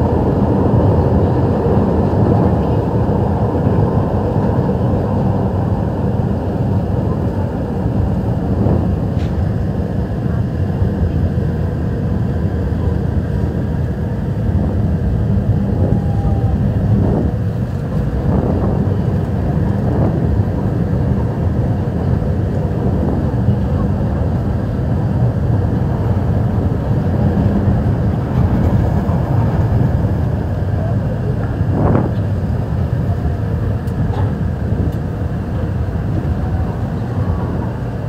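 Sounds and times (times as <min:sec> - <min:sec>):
faint murmur of passengers: 0:00.0 - 0:38.0
train rumbling: 0:00.0 - 0:38.0.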